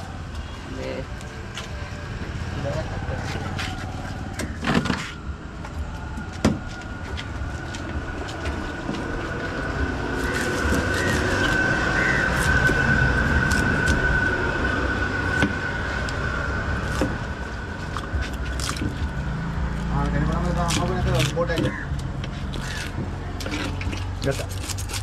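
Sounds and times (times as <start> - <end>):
steady high whine: 0.0 - 20.6.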